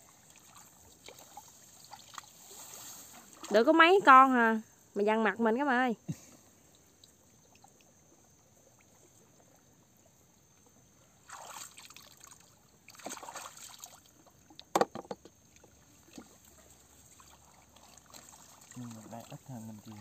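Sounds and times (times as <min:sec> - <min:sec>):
water sloshing and splashing: 0:00.0 - 0:04.1, 0:06.6 - 0:20.0.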